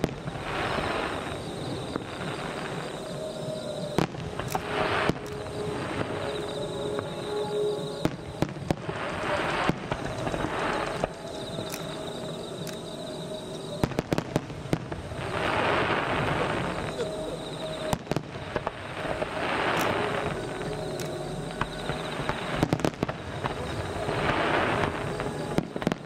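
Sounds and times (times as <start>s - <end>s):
distant fireworks bangs: 0.0s - 26.0s.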